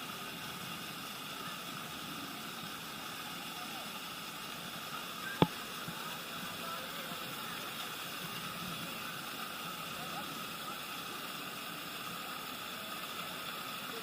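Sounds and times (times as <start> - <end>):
water rushing: 0.0 - 14.0
faint distant voices: 0.1 - 14.0.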